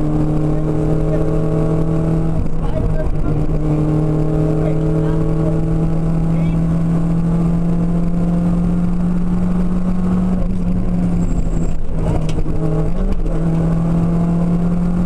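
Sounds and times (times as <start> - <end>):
car engine at speed: 0.0 - 15.0
tyre and road noise: 0.0 - 15.0.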